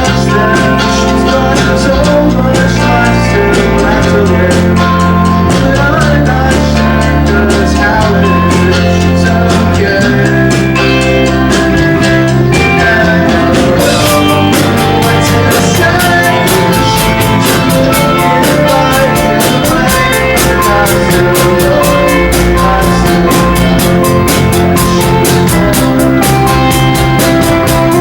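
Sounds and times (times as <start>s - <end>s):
drum kit beat: 0.0s - 28.0s
electric guitar: 0.0s - 28.0s
rock band playing live: 0.0s - 28.0s.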